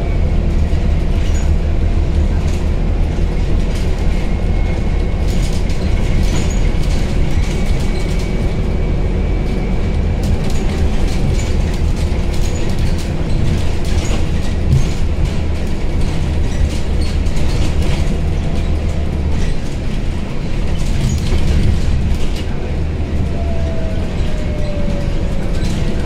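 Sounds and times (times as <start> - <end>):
bus engine rumble: 0.0 - 26.0
road noise: 0.0 - 26.0.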